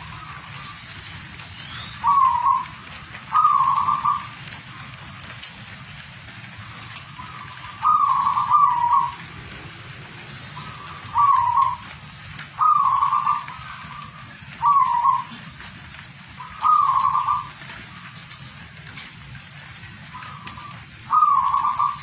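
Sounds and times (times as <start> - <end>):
dove cooing: 0.0 - 22.0
steady background hiss: 0.0 - 22.0.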